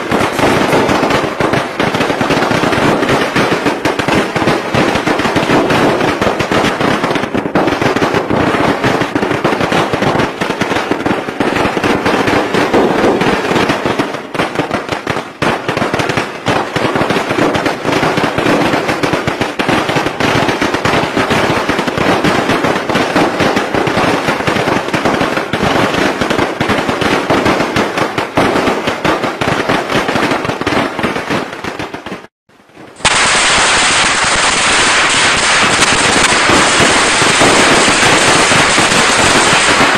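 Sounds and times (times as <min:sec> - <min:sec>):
firecrackers popping: 0:00.0 - 0:39.9.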